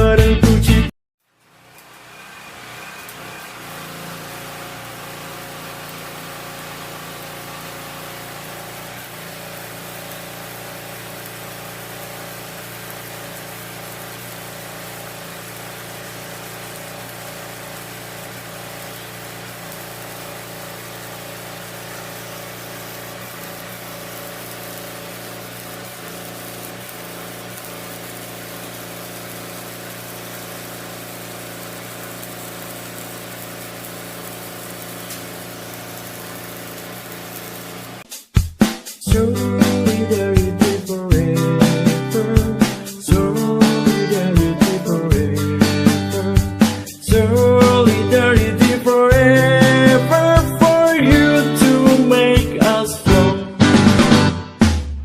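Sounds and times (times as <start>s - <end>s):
workshop machine humming: 1.2s - 38.1s, 39.1s - 54.4s.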